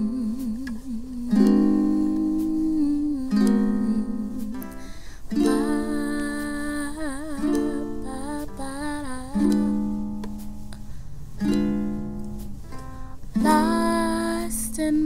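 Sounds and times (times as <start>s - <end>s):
person singing with vibrato: 0.0s - 10.6s, 13.4s - 15.0s
plucked guitar or ukulele: 0.0s - 15.0s.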